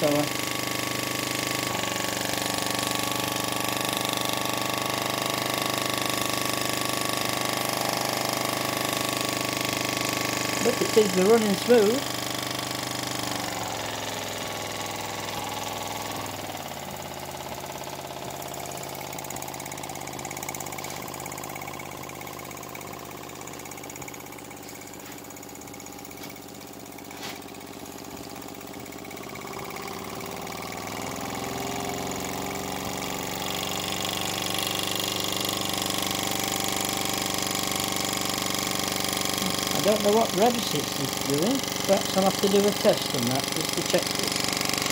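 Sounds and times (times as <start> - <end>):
small steam engine running: 0.0 - 44.9.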